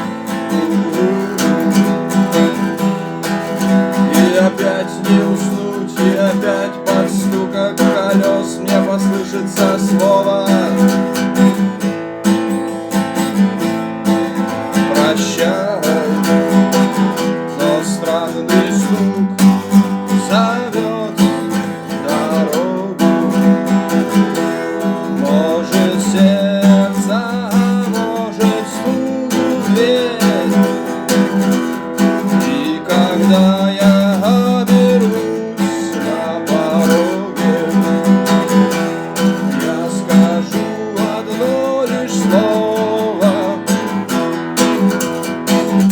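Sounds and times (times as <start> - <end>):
acoustic guitar strumming chords: 0.0 - 45.9
bending guitar melody: 0.0 - 45.9.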